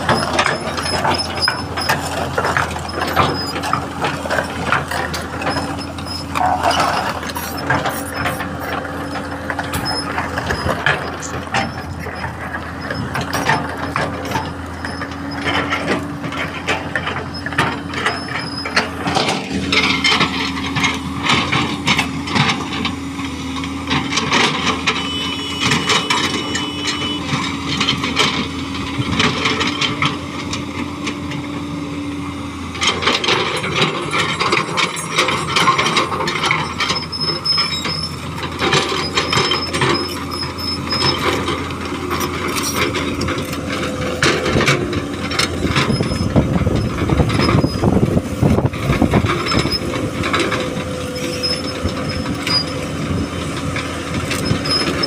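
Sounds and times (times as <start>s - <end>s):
clanks and knocks: 0.0s - 23.0s, 32.8s - 55.0s
engine running: 0.0s - 55.0s.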